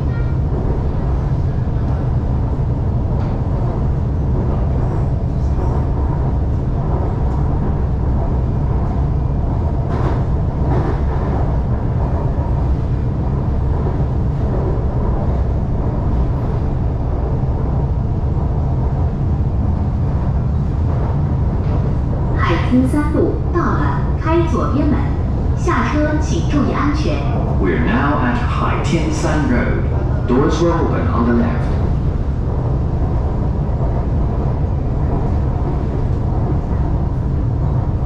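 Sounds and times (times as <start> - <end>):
train rumbling along track: 0.0 - 38.0.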